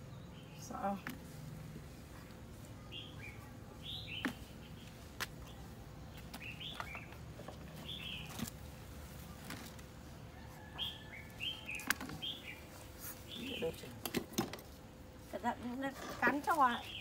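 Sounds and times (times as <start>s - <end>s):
small birds chirping: 0.0s - 14.0s, 16.3s - 17.0s.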